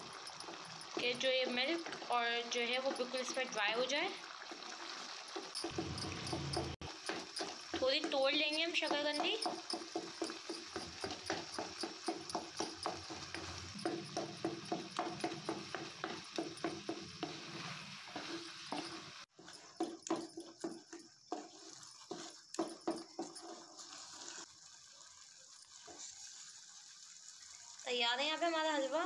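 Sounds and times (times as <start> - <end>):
wooden spatula scraping metal pan: 0.0 - 3.7, 4.5 - 24.5.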